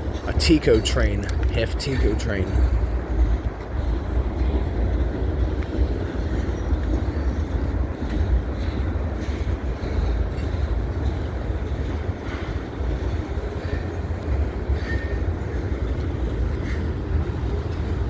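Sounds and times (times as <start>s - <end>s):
freight train rumbling past: 0.0s - 18.0s
wind on microphone: 0.0s - 18.0s.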